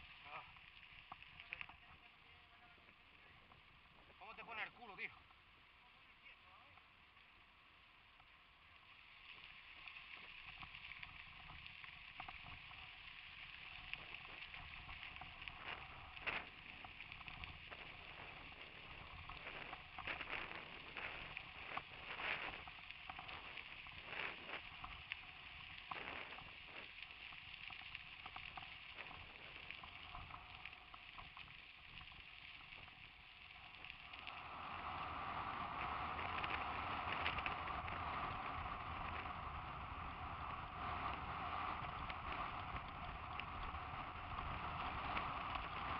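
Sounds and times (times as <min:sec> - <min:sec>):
tyres rolling on gravel: 0:08.9 - 0:45.9.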